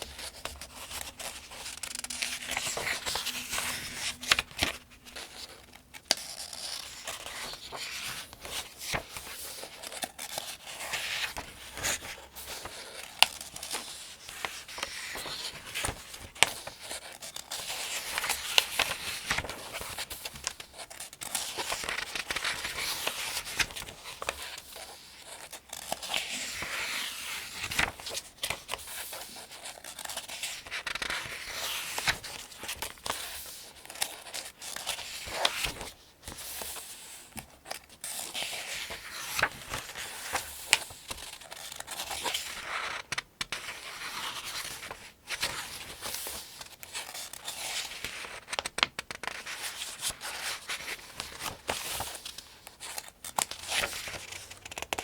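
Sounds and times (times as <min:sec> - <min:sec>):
paper pages turning: 0:00.0 - 0:55.0.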